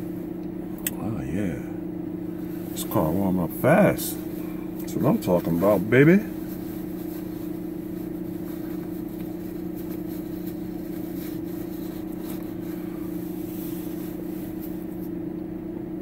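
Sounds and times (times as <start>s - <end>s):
car engine idling: 0.0s - 16.0s
heater running: 0.0s - 16.0s.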